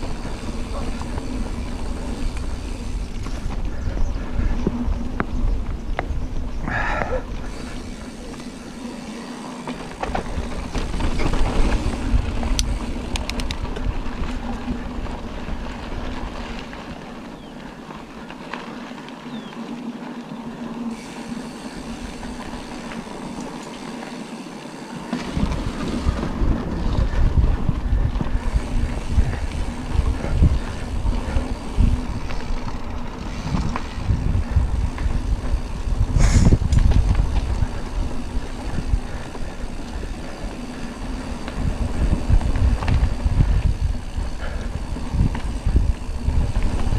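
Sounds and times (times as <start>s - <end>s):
bike tyres rumbling on dirt: 0.0s - 46.9s.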